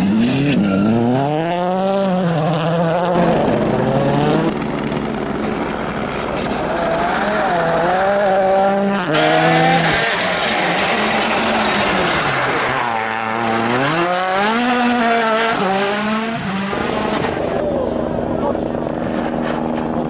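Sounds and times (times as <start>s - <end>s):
rally car engines revving hard: 0.0s - 20.0s.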